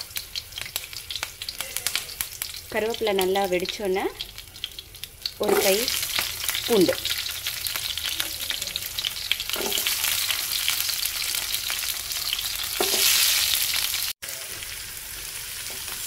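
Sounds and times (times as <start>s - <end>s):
food frying in hot oil: 0.0s - 16.0s.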